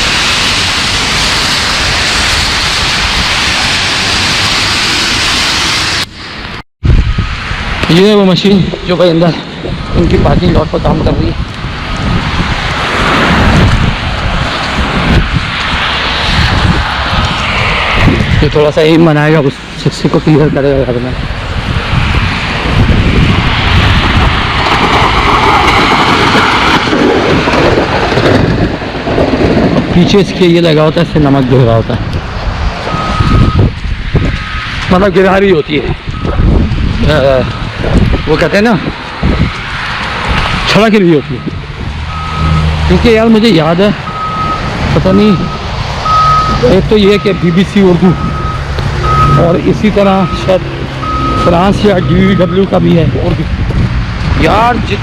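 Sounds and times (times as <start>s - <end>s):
plow rushing noise: 0.0s - 55.0s
truck engine rumble: 0.0s - 55.0s
wind buffeting microphone: 6.3s - 55.0s.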